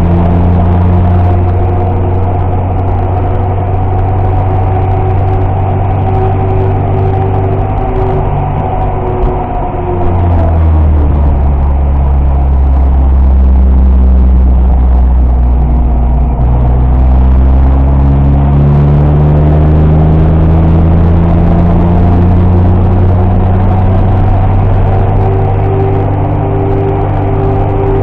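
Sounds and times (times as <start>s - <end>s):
car engine from inside cabin: 0.0s - 28.0s.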